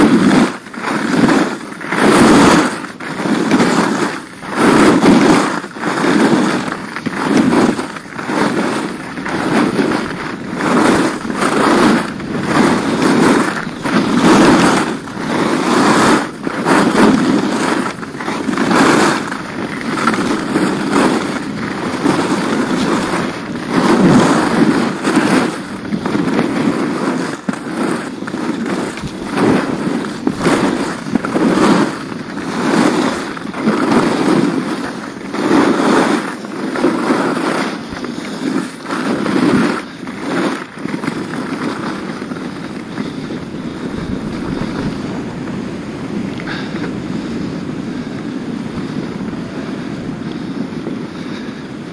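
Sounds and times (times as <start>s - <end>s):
skis scraping over snow: 0.0s - 51.9s.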